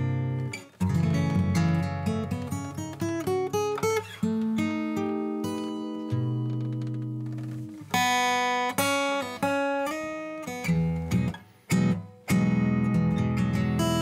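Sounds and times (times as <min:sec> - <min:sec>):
acoustic guitar fingerstyle: 0:00.0 - 0:14.0.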